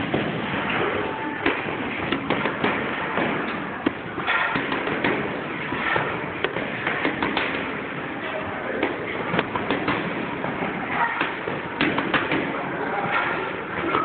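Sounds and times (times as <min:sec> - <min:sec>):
gloves smacking focus mitts: 0:00.0 - 0:07.8, 0:08.8 - 0:13.2.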